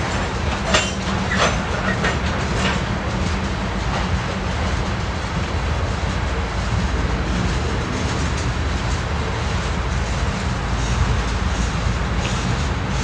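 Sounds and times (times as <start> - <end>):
train wheels rumbling on rail: 0.0 - 13.0
wheels clacking over rail joint: 0.0 - 13.0.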